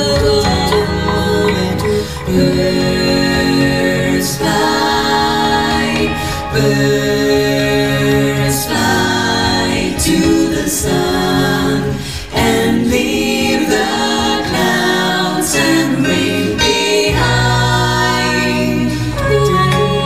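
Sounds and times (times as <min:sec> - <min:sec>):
vocal ensemble singing harmony: 0:00.0 - 0:20.0.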